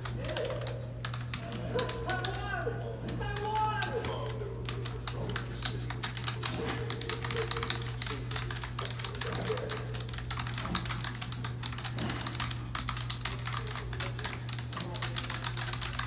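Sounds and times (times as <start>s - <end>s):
rapid keyboard typing: 0.0s - 16.0s
steady low hum: 0.0s - 16.0s.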